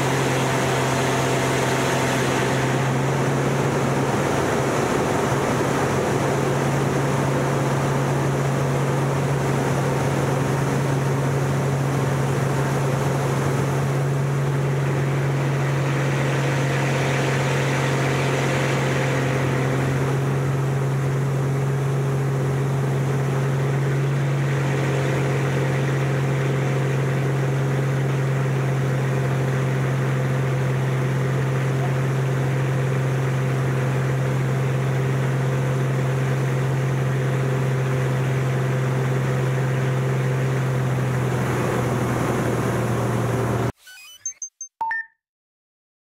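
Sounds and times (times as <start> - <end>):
propeller plane engine drone: 0.0 - 43.8.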